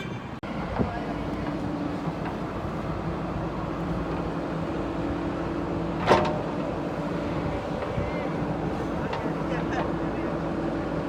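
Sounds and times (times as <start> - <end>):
diesel engine running: 0.3 - 11.0.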